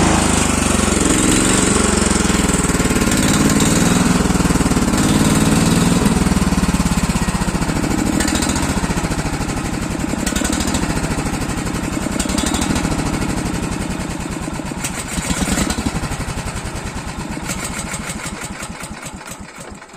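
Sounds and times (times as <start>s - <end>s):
tractor diesel engine knocking: 0.0s - 19.9s.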